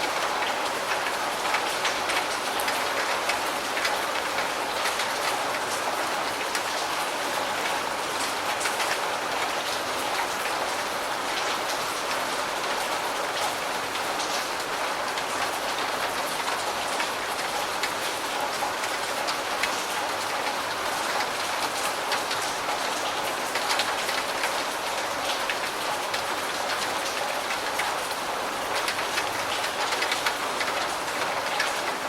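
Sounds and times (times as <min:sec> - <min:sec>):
rain falling on hard surface: 0:00.0 - 0:32.0.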